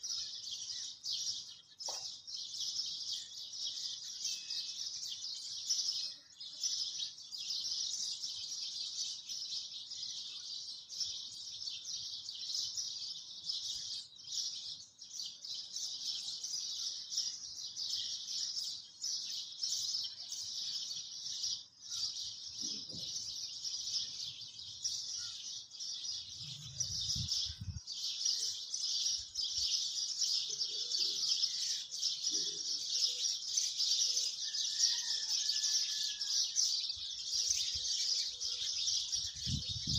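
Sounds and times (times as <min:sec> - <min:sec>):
high-pitched chirping chorus: 0:00.0 - 0:39.9.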